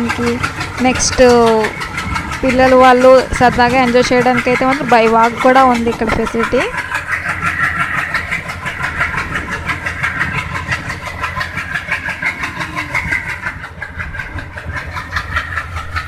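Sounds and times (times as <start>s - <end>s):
low train rumble: 0.0s - 16.0s
train wheels and wagons rattling: 0.0s - 16.0s.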